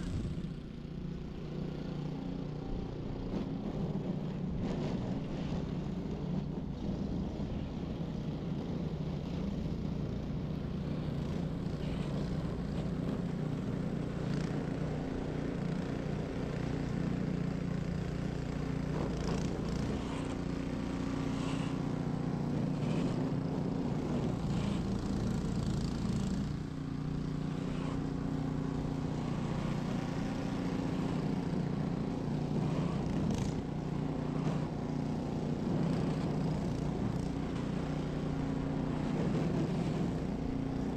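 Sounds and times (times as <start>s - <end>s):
snow blower engine running: 0.0s - 40.9s.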